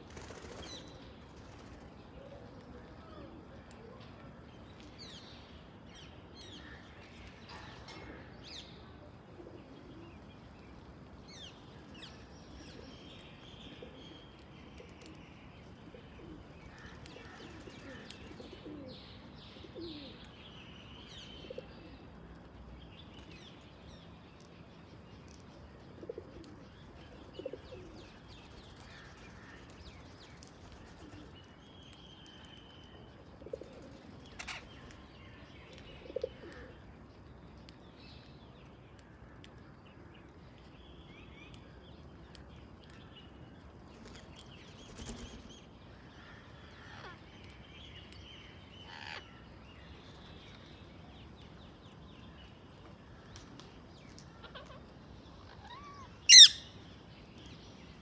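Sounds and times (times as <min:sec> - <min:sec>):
birds chirping and twittering: 0:09.7 - 0:58.0.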